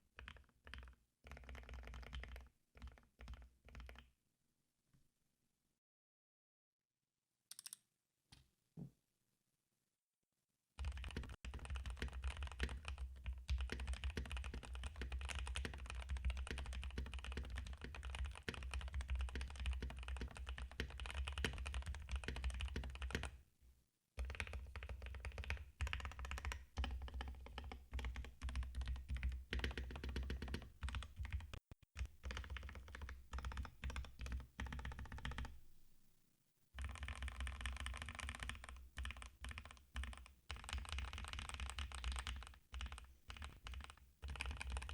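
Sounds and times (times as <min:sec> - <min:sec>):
mechanical keyboard typing: 0:00.2 - 0:04.0, 0:07.5 - 0:07.8, 0:10.8 - 0:23.3, 0:24.2 - 0:35.5, 0:36.8 - 0:44.9.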